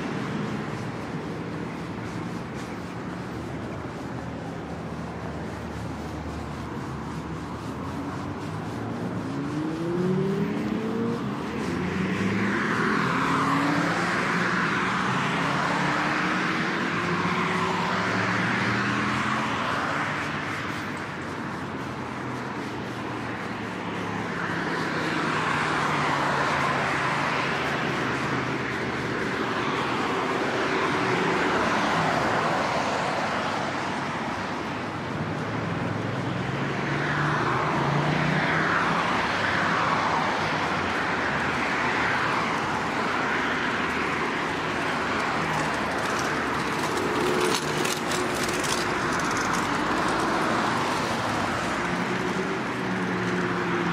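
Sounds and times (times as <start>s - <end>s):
cars driving past: 0.0s - 53.9s.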